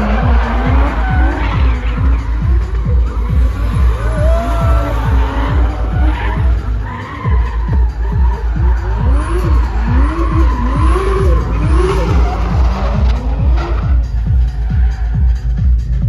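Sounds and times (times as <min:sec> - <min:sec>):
car engines revving: 0:00.0 - 0:16.0
music with steady beat: 0:00.0 - 0:16.0
tyres skidding and squealing: 0:00.0 - 0:16.0.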